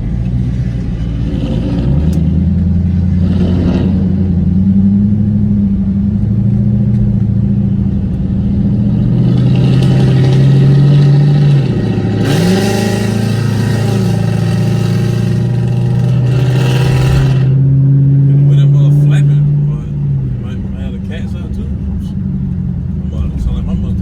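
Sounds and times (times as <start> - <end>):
car engine revving: 0.0 - 24.0
car engines idling: 0.0 - 24.0.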